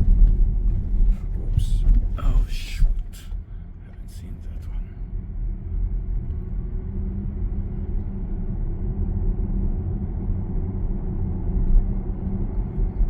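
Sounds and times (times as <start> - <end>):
road and tyre rumble: 0.0 - 13.0.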